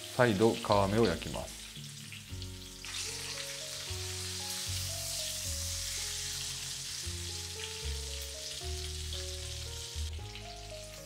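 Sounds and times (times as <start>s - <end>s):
chicken sizzling in frying pan: 0.0s - 11.0s
soft background music: 0.0s - 11.0s.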